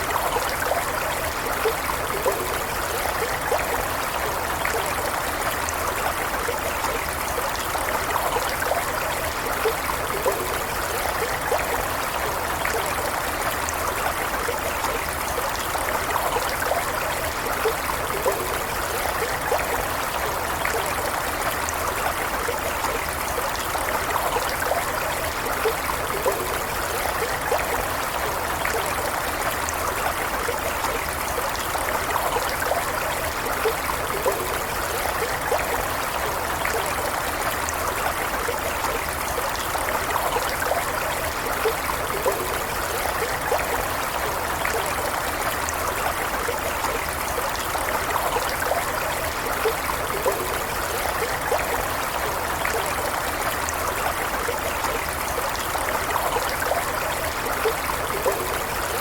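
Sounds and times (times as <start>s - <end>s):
stream bubbling and trickling: 0.0s - 59.0s.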